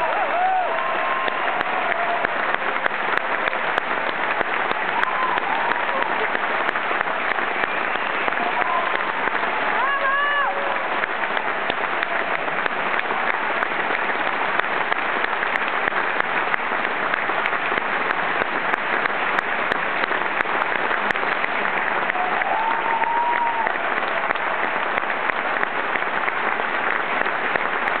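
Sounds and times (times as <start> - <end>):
audience applauding: 0.0 - 28.0.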